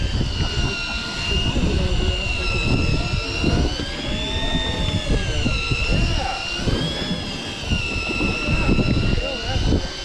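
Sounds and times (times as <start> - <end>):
fishing reel motor whining: 0.0 - 10.0.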